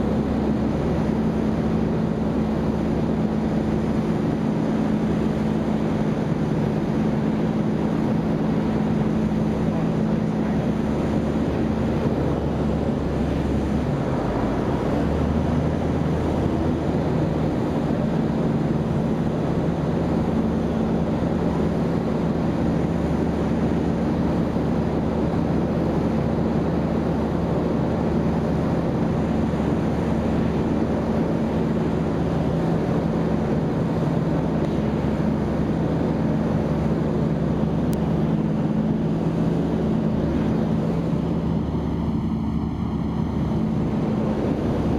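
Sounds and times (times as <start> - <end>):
aircraft engine and propeller: 0.0 - 44.9
wind noise: 0.0 - 44.9.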